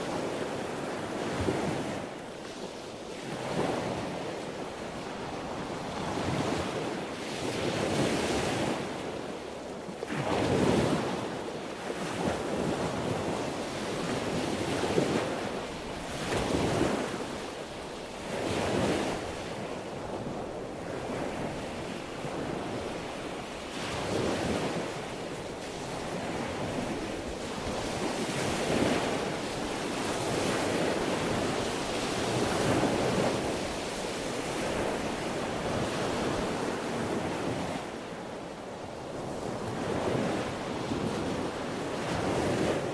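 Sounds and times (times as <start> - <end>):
sea waves washing on shore: 0.0 - 42.9.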